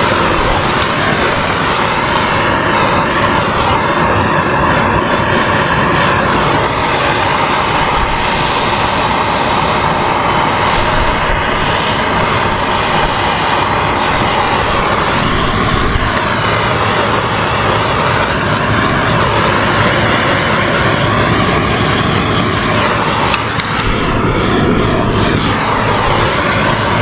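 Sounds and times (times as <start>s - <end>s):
gas torch flame rushing: 0.0s - 27.0s.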